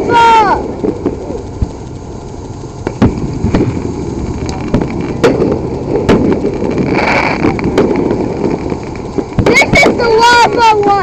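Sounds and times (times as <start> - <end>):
fireworks banging and cracking: 0.0 - 11.0
fireworks hiss: 0.0 - 11.0
low rumble: 0.0 - 11.0.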